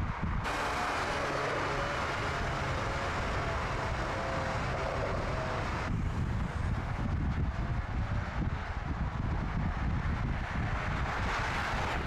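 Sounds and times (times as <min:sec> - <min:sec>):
tyre and wind noise: 0:00.0 - 0:12.0
car engine at speed: 0:00.1 - 0:12.0.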